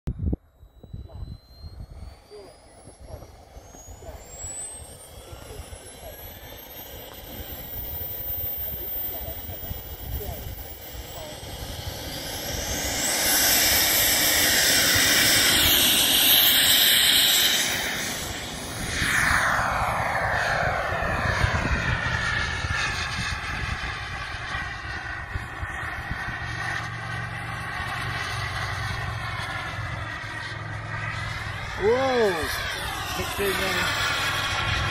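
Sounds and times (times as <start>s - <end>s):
model jet turbine whine: 0.1s - 34.9s.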